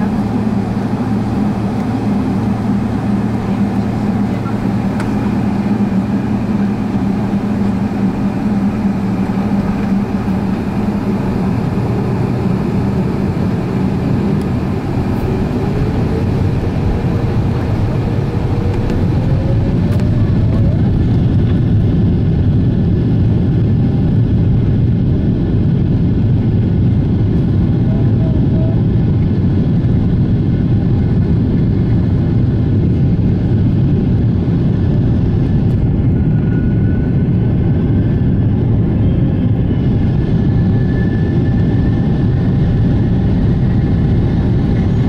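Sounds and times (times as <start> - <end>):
low rumble in airplane cabin: 0.0 - 45.0.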